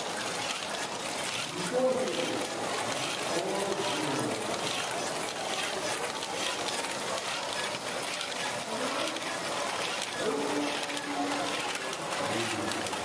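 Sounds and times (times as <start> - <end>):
plastic balls rattling and clicking: 0.0 - 13.0
voices in a hall: 0.0 - 13.0.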